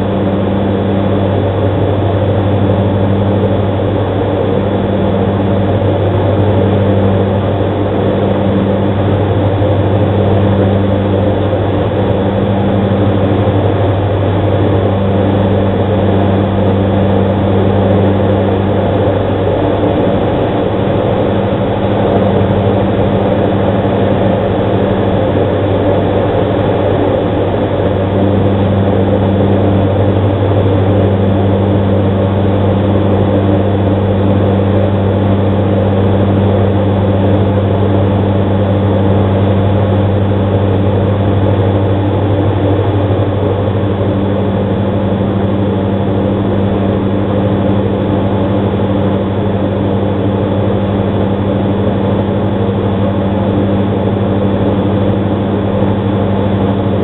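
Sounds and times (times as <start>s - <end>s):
aircraft engines droning: 0.0s - 57.0s.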